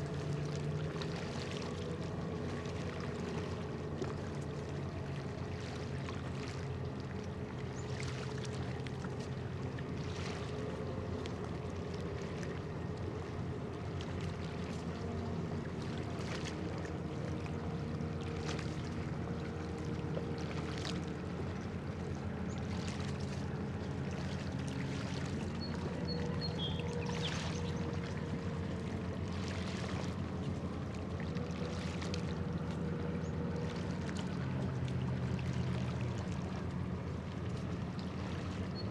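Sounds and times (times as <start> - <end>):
ship engine drone: 0.0 - 38.9
small waves lapping: 0.0 - 38.9.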